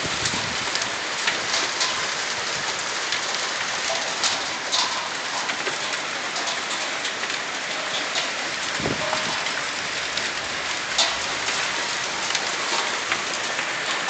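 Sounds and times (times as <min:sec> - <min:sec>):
hailstones cracking on hard surfaces: 0:00.0 - 0:14.0
hailstones pelting down: 0:00.0 - 0:14.0.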